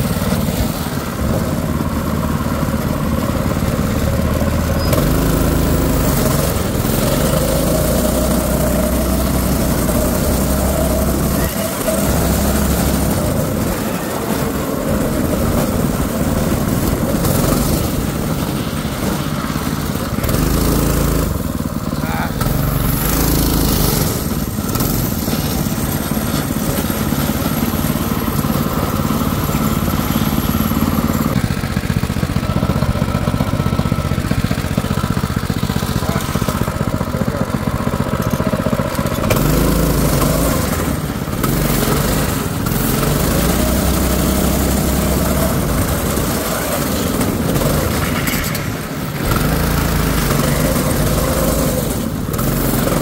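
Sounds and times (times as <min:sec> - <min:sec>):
single-cylinder engine running: 0:00.0 - 0:53.0.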